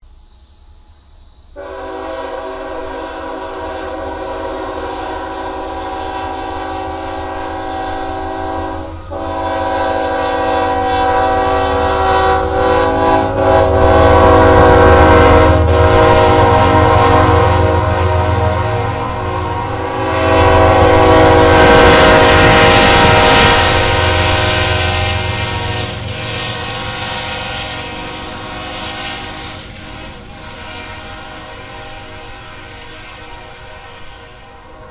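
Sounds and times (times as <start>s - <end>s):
low rumble of train: 0.0s - 34.9s
locomotive air horn chord: 1.6s - 34.9s.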